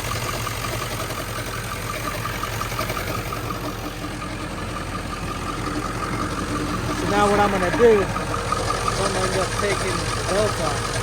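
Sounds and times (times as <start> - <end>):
pulleys chattering: 0.0 - 4.3, 4.9 - 11.0
diesel engine idling: 0.0 - 11.0.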